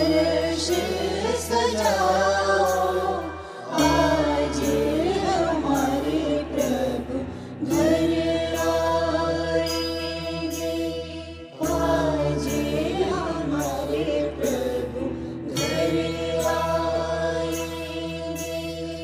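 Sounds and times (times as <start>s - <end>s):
devotional song with bass and beat: 0.0s - 19.0s.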